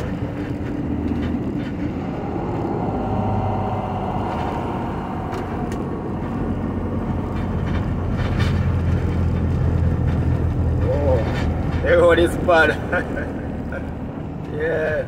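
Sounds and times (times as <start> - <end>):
car engine hum: 0.0 - 15.0
tyre and road noise: 0.0 - 15.0.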